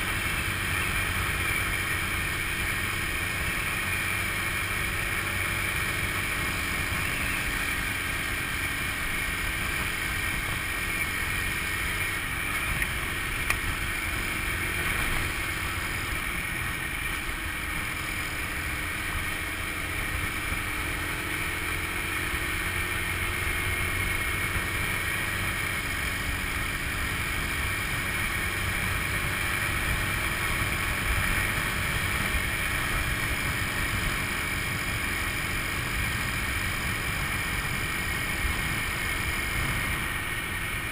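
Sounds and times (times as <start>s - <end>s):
road and wind noise: 0.0s - 40.9s
scooter engine running: 0.0s - 40.9s.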